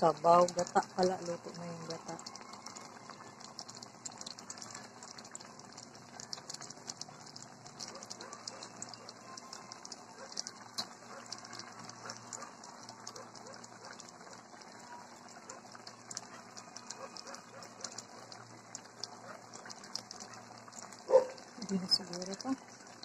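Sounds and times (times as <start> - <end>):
small bubbles popping: 0.0 - 23.0.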